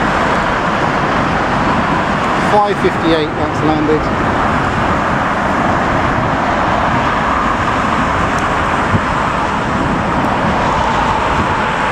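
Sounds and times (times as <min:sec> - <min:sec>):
cars driving past: 0:00.0 - 0:11.9.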